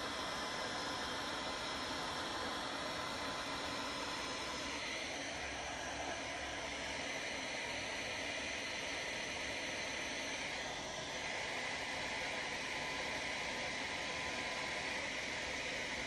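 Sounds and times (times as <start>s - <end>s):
hair dryer blowing air: 0.0s - 16.0s.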